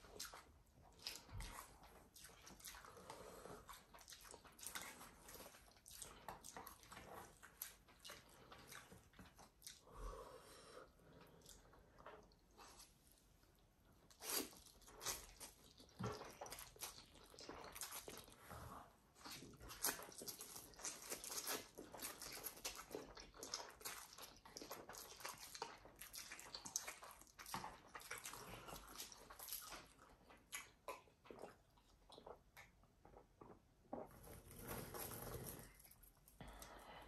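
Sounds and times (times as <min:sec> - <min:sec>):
chewing mouth sounds: 0:00.0 - 0:10.0, 0:11.2 - 0:33.6.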